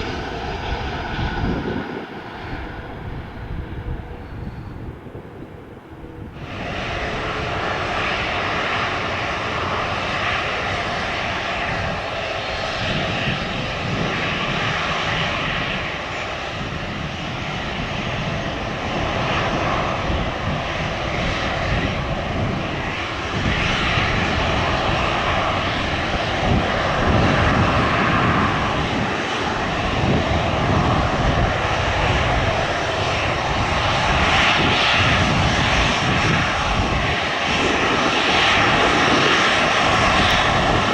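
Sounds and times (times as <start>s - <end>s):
airliner engines running: 0.0s - 40.9s.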